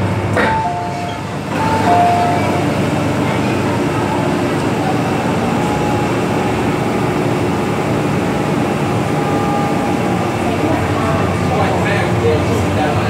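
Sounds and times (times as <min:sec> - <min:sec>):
train hum and rush: 0:00.0 - 0:13.0.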